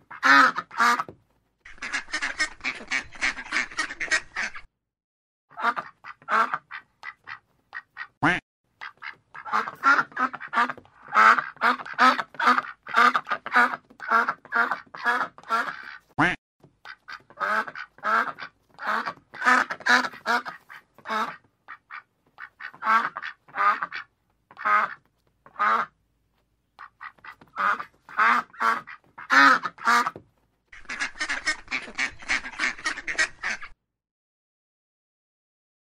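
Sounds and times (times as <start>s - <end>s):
duck quacking: 0.0s - 1.1s, 1.7s - 4.7s, 5.5s - 26.0s, 26.8s - 30.2s, 30.8s - 33.8s.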